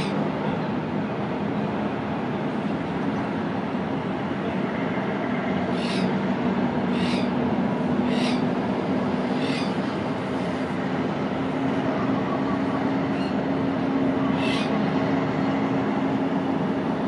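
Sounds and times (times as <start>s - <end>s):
locomotive engine drone: 0.0s - 17.0s.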